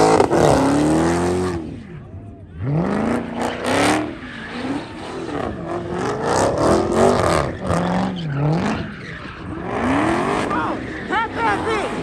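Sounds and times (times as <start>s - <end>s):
car engine revving: 0.0s - 12.0s
tires screeching: 0.0s - 12.0s.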